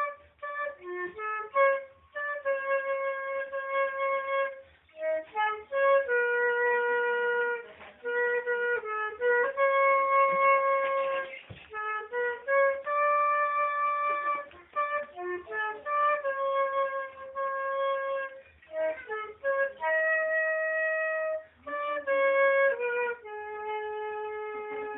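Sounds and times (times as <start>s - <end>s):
flute playing slow melody: 0.0s - 24.9s.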